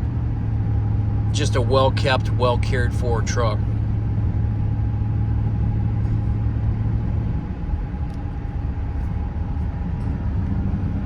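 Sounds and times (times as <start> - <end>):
engine and road noise rumble: 0.0 - 11.0
low drone: 0.0 - 11.0.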